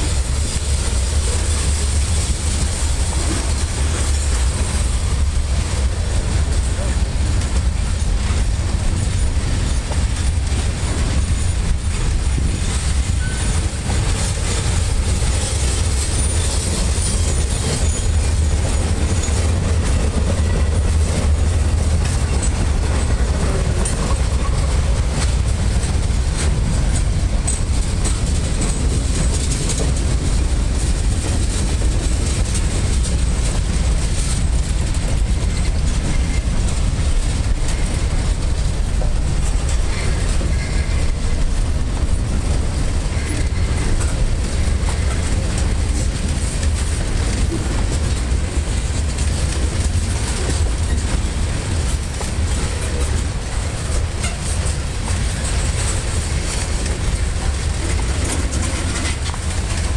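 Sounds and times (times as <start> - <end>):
train wheels rumbling on rail: 0.0 - 59.9
wheels clicking over rail joints: 0.0 - 59.9.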